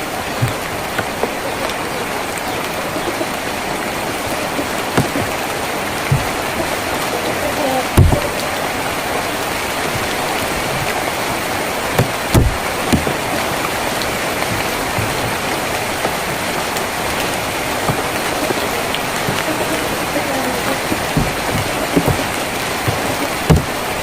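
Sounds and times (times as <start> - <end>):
heavy raindrops knocking: 0.0 - 24.0
rain on a tin roof: 0.0 - 24.0.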